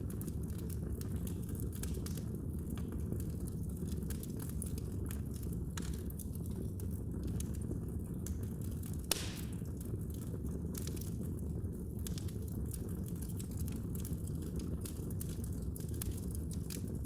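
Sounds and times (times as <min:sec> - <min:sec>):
low rumble of flames: 0:00.0 - 0:17.0
wood fire pops and snaps: 0:00.0 - 0:17.0.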